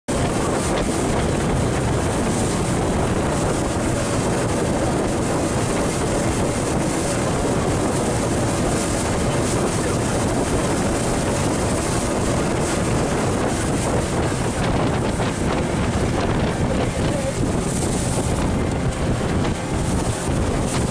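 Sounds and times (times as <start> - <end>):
boat engine: 0.1 - 20.9
water splashing: 0.1 - 20.9
wind buffeting microphone: 0.1 - 20.9.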